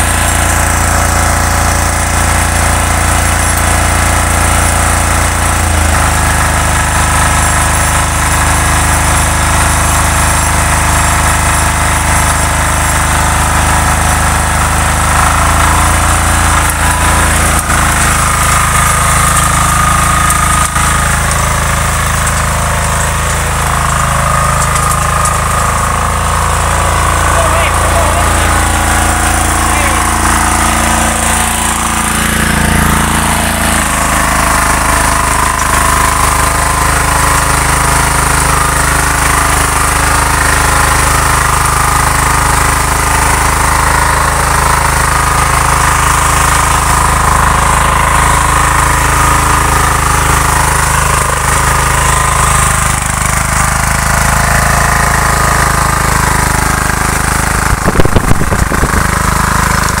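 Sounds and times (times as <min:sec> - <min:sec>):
power weeder engine running: 0:00.0 - 1:00.0
tines churning soil: 0:00.0 - 1:00.0.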